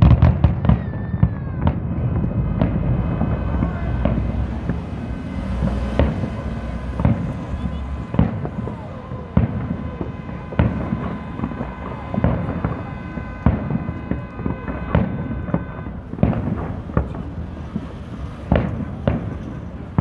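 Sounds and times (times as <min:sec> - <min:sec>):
fireworks shells bursting: 0:03.6 - 0:20.0.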